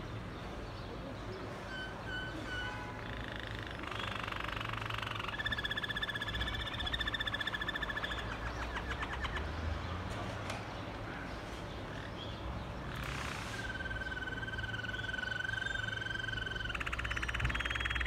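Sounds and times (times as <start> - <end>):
canary singing trills: 0.0 - 10.0, 11.7 - 18.0.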